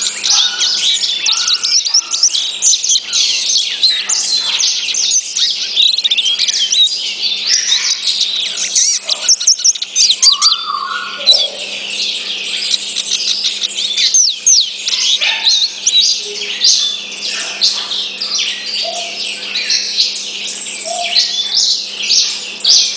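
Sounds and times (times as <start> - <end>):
goldfinch twittering song: 0.0 - 22.9.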